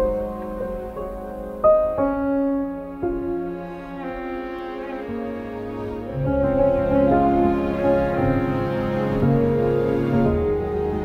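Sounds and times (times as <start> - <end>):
slow gentle piano melody: 0.0 - 11.0.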